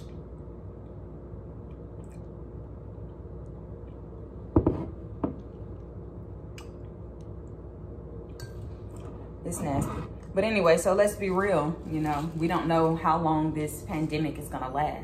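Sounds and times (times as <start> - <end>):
low hum: 0.0 - 14.1.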